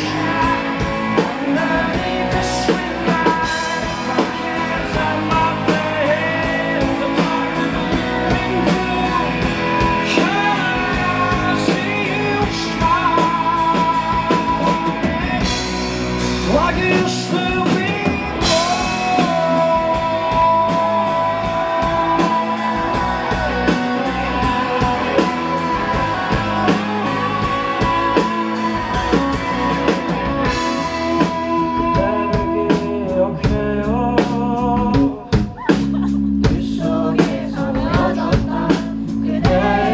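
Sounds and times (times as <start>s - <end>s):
live rock band: 0.0s - 39.9s.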